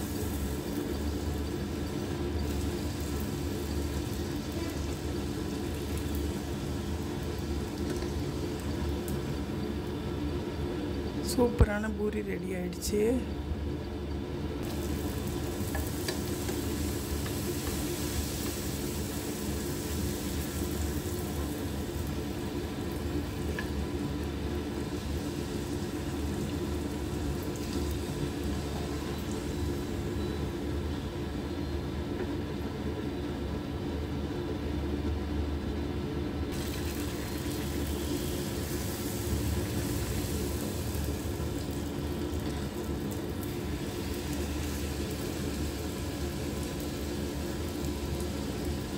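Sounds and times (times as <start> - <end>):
oil sizzling and bubbling: 0.0 - 11.6, 13.3 - 33.8, 36.4 - 48.9.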